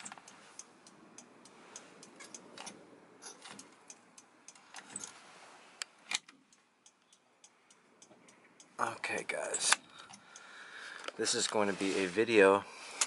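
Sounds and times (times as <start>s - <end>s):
faint light clicks and ticks: 0.0s - 5.2s, 5.8s - 11.6s.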